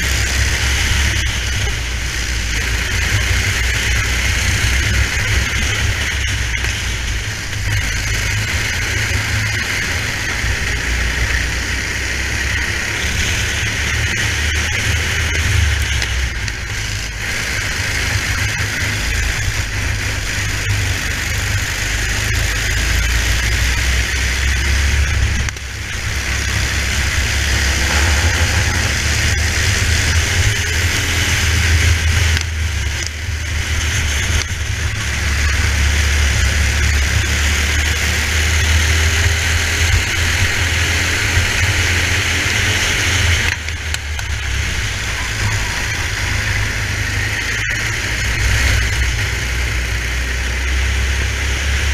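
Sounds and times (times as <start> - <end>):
racing kart engine running hard: 0.0 - 51.9.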